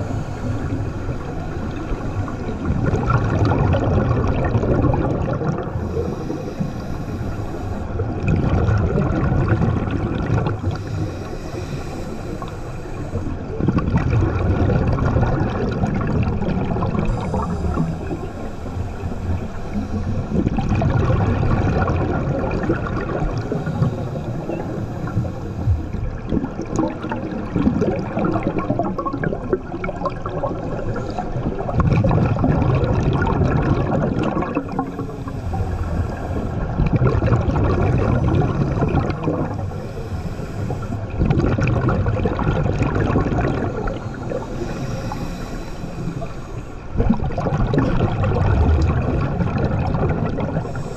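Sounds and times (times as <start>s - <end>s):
exhaled bubbles gurgling: 0.0s - 50.9s
underwater water noise: 0.0s - 50.9s.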